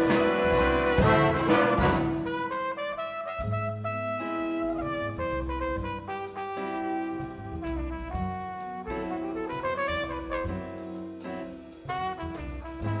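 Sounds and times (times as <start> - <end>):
jazz big band playing: 0.0 - 13.0.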